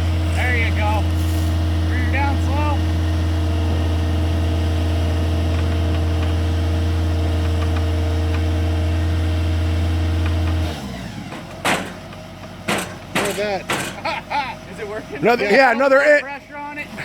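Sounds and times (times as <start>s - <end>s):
pile-driving rig low hum: 0.0s - 17.0s.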